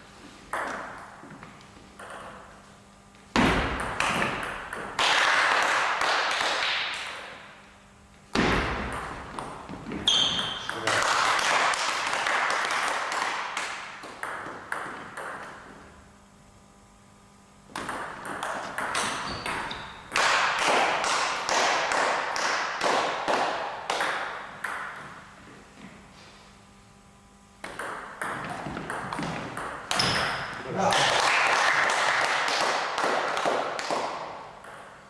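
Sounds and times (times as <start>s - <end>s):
table tennis ball hits: 0.5s - 1.4s, 2.0s - 2.6s, 3.3s - 7.5s, 8.3s - 15.9s, 17.7s - 25.2s, 27.6s - 35.0s.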